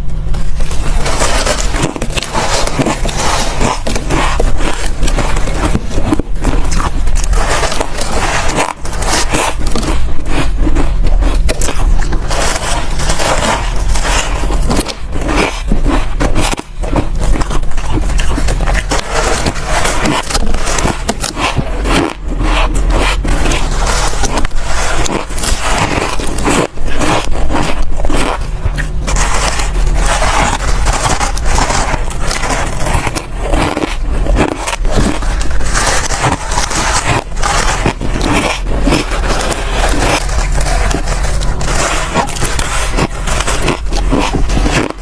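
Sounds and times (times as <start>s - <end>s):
ice crunching in bites: 0.4s - 45.0s.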